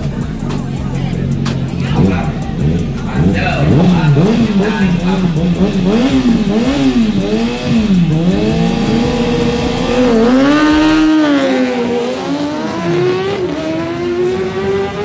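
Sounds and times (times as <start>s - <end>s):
superbike engine revving: 0.0s - 15.0s.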